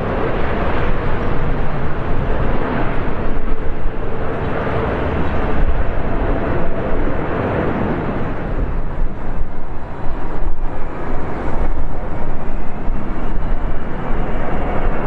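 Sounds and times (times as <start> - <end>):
jet engines and airflow rushing: 0.0 - 15.0.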